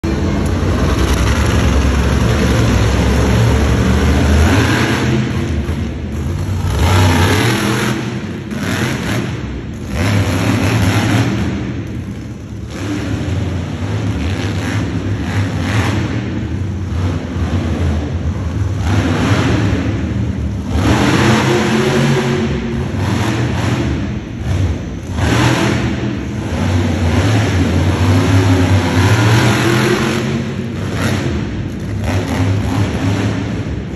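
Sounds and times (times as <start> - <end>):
truck engine revving hard: 0.1 - 33.9.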